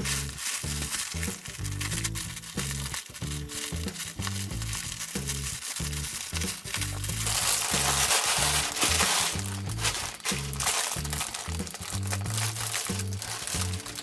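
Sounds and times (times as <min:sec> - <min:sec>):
background music with steady bass: 0:00.0 - 0:14.0
plastic packaging crinkling: 0:00.0 - 0:14.0.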